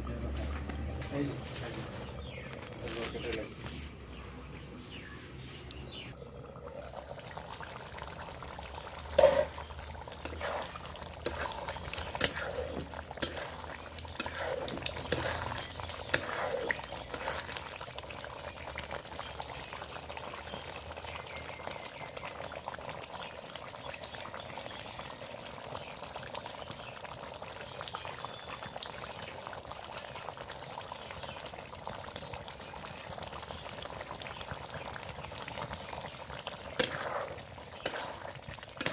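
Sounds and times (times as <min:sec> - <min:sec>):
curry simmering and sizzling: 0:00.0 - 0:38.9.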